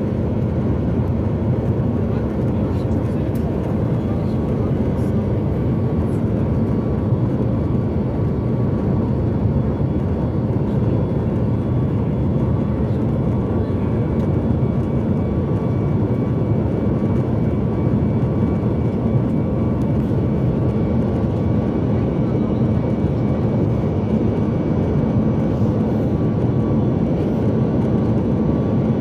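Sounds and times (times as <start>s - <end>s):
airplane cabin noise: 0.0s - 29.0s.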